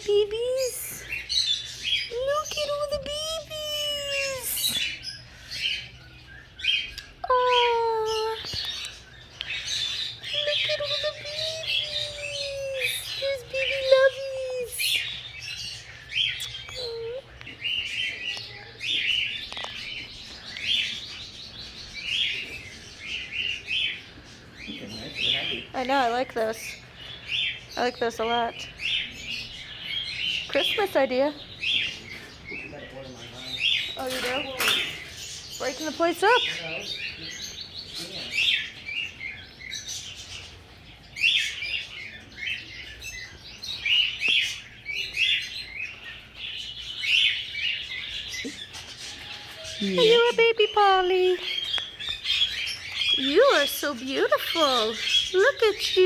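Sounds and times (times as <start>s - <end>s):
parrots chirping: 0.0s - 56.0s.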